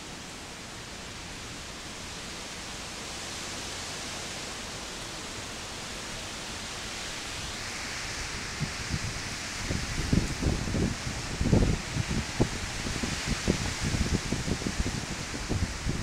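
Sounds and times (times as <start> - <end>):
heavy rain in windstorm: 0.0 - 16.0.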